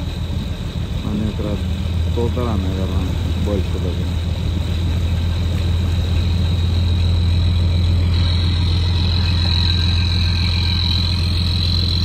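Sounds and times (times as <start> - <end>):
boat engine low drone: 0.0 - 12.0
thin high whine: 0.0 - 12.0.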